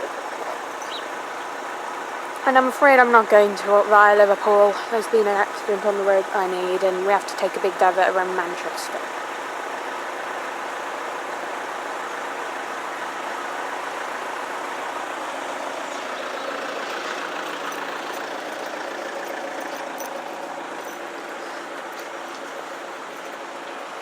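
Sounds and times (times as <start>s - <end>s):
vehicle engines running: 0.0s - 24.0s.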